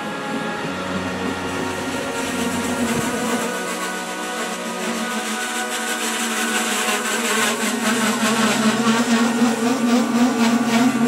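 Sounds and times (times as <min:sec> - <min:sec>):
electric train hum: 0:00.0 - 0:11.0.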